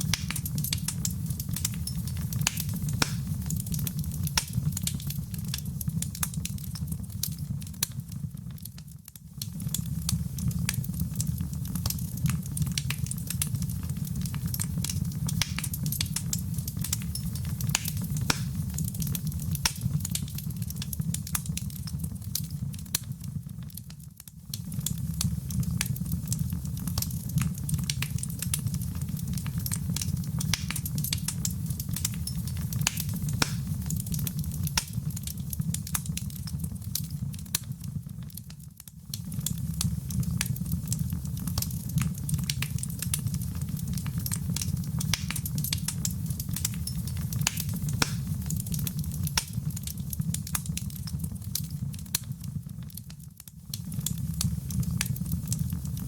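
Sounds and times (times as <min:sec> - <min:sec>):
fire crackling and popping: 0:00.0 - 0:56.0
low rumble of fire: 0:00.0 - 0:56.0.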